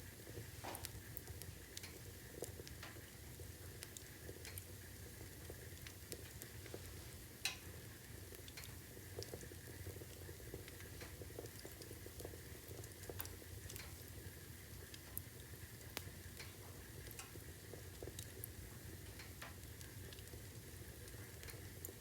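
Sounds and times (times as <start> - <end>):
fire snapping and popping: 0.1 - 22.0.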